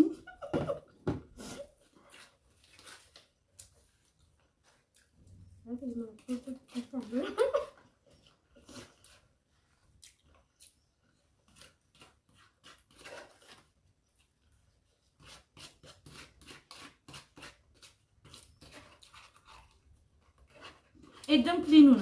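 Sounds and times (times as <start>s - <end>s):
rapid chewing and mouth noises: 1.8s - 21.6s.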